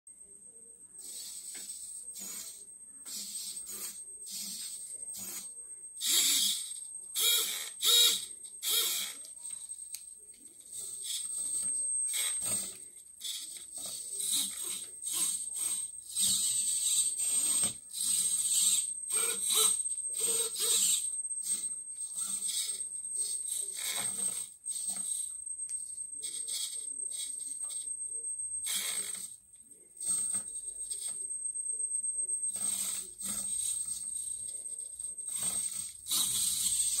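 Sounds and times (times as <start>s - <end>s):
faint high-pitched whine: 0.1s - 37.0s
servo motors whirring: 1.0s - 9.8s, 10.6s - 25.4s, 26.2s - 27.9s, 28.6s - 29.4s, 32.5s - 37.0s.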